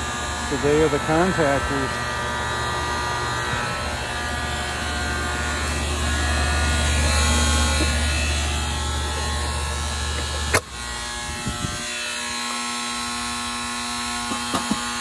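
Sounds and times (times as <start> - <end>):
electrical buzz from contactor: 0.0 - 15.0.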